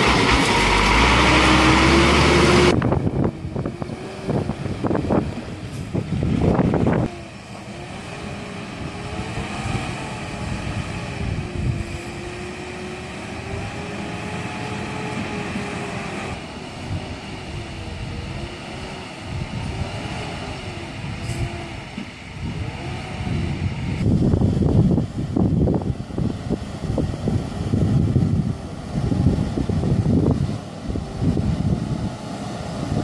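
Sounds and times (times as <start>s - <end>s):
loud rush of noise: 0.0s - 33.0s
truck diesel engine under load: 0.0s - 33.0s.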